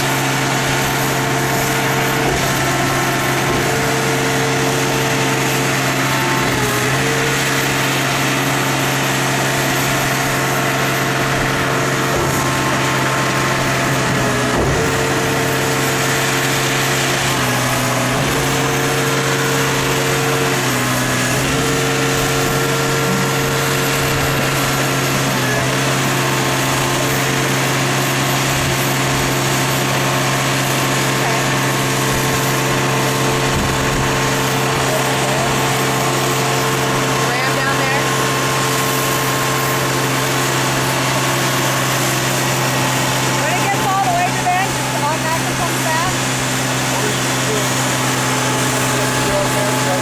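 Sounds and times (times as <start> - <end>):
engine running hydraulic system: 0.0 - 37.3, 38.0 - 50.0.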